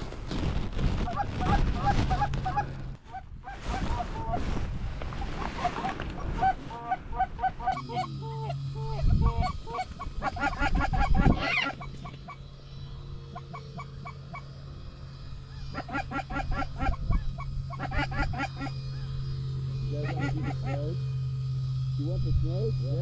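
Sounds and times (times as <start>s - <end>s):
steady low hum: 0.0s - 23.0s
geese honking: 1.0s - 21.0s.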